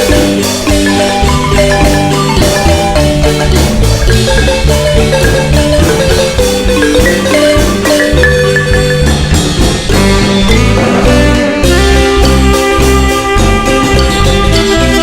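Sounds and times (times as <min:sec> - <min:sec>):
marimba melody: 0:00.0 - 0:15.0
steady bass line: 0:00.0 - 0:15.0.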